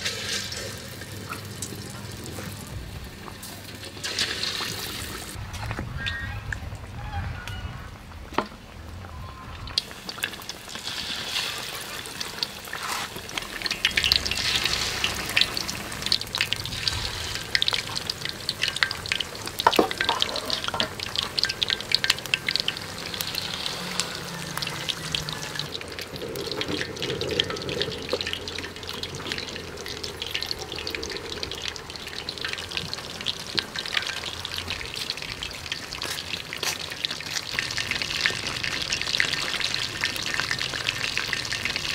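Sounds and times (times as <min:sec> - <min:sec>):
fish frying in hot oil: 0:00.0 - 0:05.4, 0:08.0 - 0:41.9.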